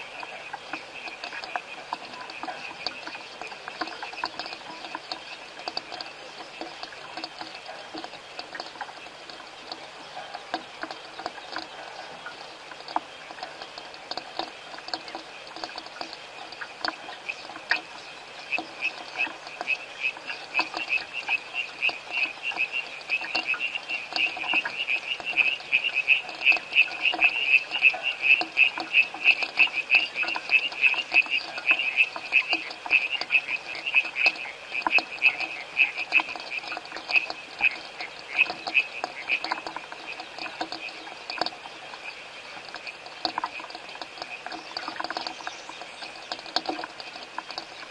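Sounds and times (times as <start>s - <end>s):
background frog calls: 0.0s - 47.9s
frog pulsed calls: 0.0s - 47.9s.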